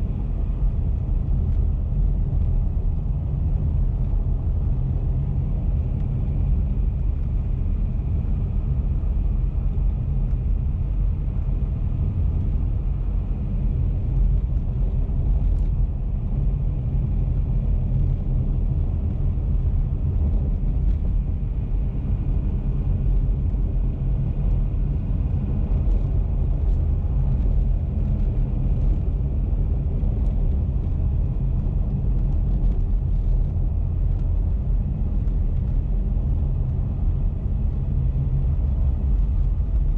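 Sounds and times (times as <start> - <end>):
car cruising on road: 0.0 - 39.9.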